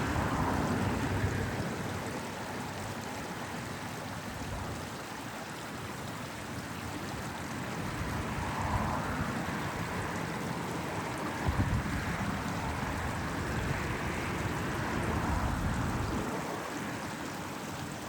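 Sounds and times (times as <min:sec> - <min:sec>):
low rumble of car traffic: 0:00.0 - 0:18.0
small stream flowing: 0:00.0 - 0:18.0.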